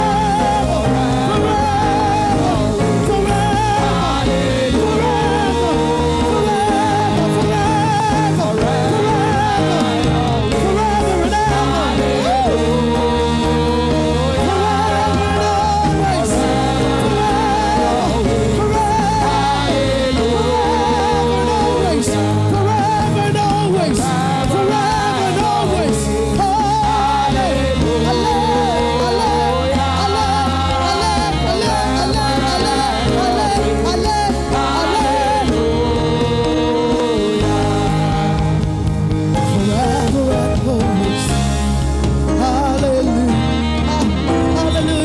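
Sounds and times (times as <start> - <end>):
person singing with vibrato: 0.0 - 45.0
sustained keyboard and bass: 0.0 - 45.0.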